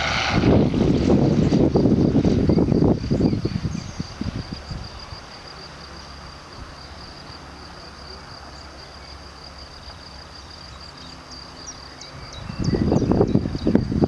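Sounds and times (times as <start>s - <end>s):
cricket trilling: 0.3s - 14.0s.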